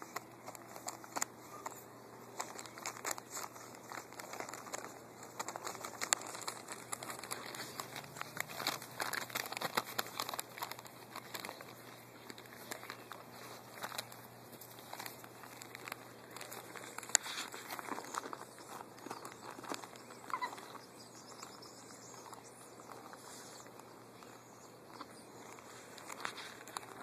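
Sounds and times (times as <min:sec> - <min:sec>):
paper bag crinkling under puppies: 0:00.0 - 0:27.0.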